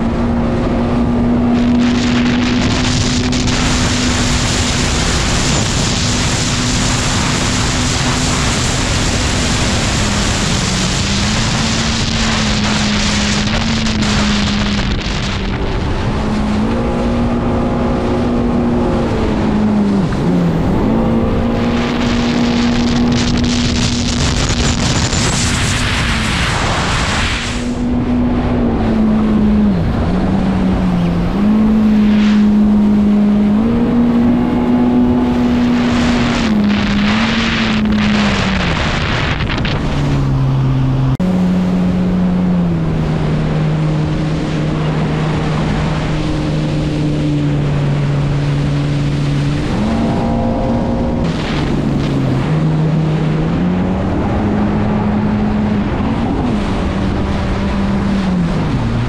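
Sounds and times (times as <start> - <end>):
motorboat engine: 0.0 - 59.0
rushing wind and water: 0.0 - 59.0.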